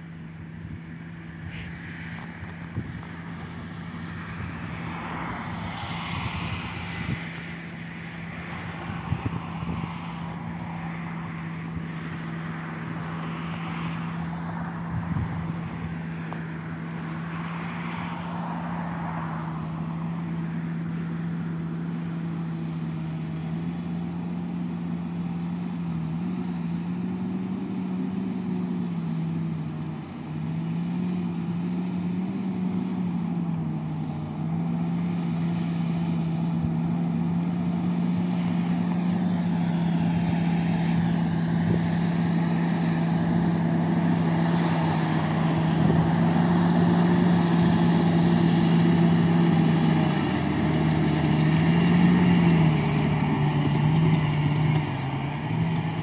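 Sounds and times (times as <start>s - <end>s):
distant tractor engine droning: 0.0s - 56.0s.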